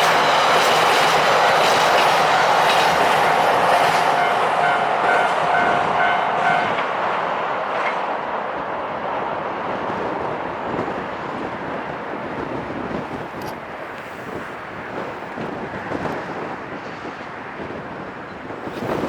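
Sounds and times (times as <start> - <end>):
passing train rumble: 0.0 - 19.0
wind buffeting microphone: 0.0 - 19.0.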